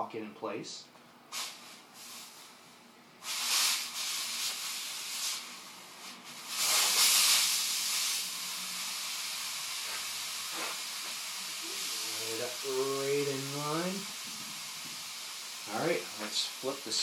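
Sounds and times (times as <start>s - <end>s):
steam cleaner hissing: 1.3s - 17.0s.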